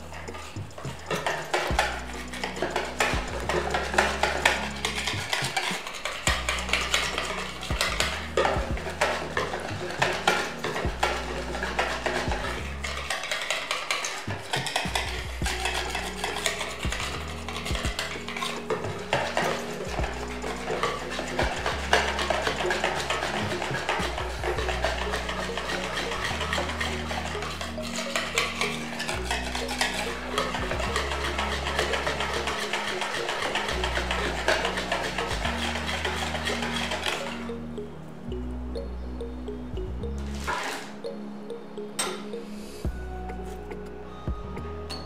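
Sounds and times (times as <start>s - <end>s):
whisk beating batter in bowl: 0.0s - 37.6s.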